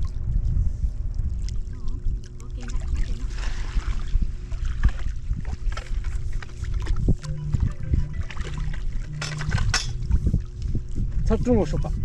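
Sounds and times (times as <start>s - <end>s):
faint steady hum: 0.0s - 12.0s
wind buffeting microphone: 0.0s - 12.0s.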